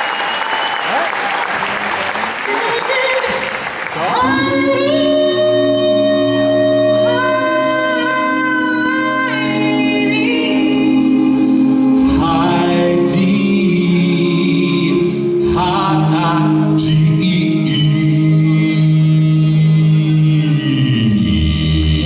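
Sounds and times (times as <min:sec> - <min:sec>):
male a cappella group singing: 0:04.0 - 0:22.0.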